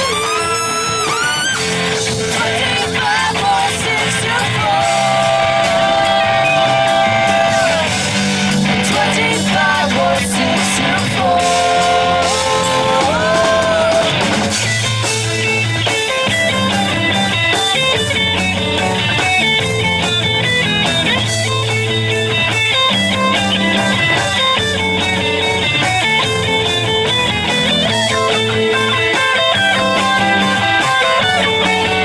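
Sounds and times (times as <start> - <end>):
fast electric guitar run: 0.0 - 32.0
rock band playing: 0.0 - 32.0.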